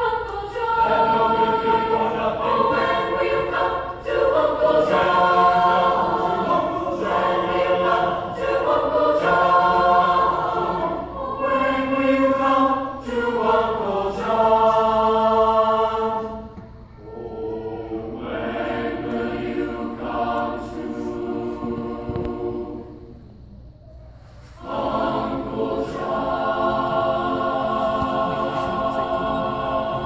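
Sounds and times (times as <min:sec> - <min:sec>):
choir singing in harmony: 0:00.0 - 0:23.5, 0:24.1 - 0:30.0.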